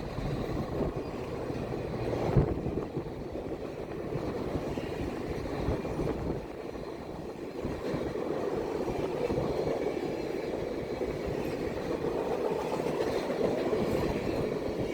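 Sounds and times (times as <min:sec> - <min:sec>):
steam train on rails: 0:00.0 - 0:14.9.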